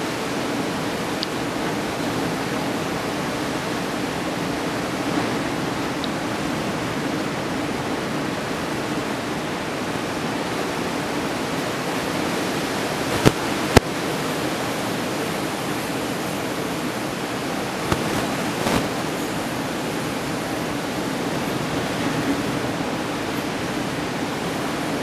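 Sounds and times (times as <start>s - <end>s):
ocean surf breaking: 0.0s - 25.0s.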